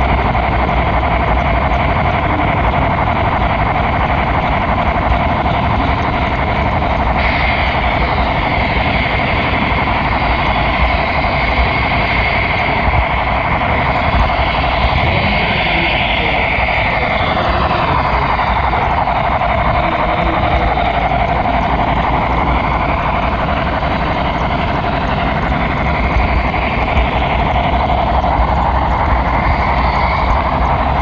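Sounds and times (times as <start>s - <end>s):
faint motor whine: 0.0s - 31.0s
model train wheels rolling on rails: 0.0s - 31.0s.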